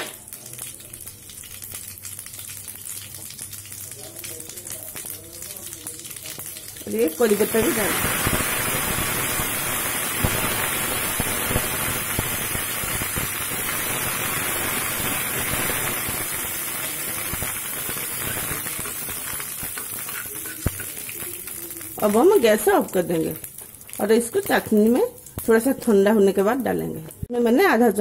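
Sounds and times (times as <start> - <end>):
leaves sizzling in hot oil: 0.0 - 27.3.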